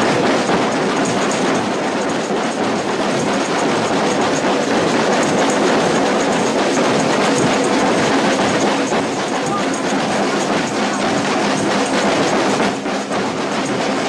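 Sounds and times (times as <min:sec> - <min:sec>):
samba drums and shakers: 0:00.0 - 0:14.0.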